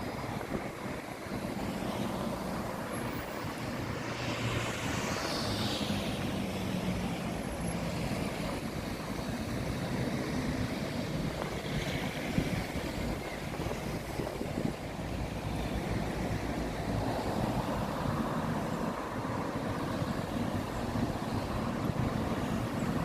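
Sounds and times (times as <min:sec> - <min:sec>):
road traffic passing: 0:00.0 - 0:23.0
wind rumble on microphone: 0:00.0 - 0:23.0.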